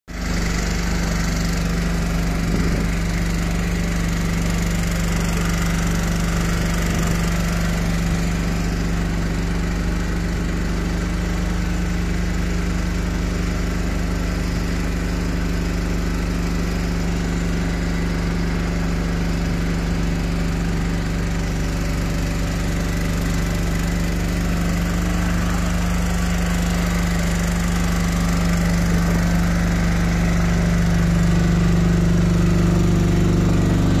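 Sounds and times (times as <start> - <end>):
engine droning steadily: 0.1 - 34.0.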